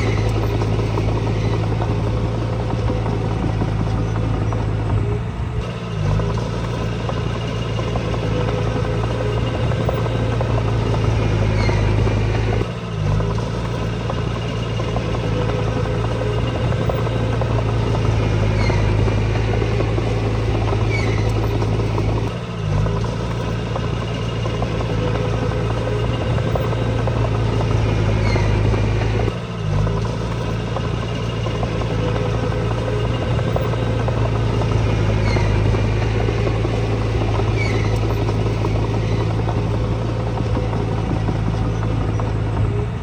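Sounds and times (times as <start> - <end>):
heavy diesel engine droning: 0.0 - 43.0.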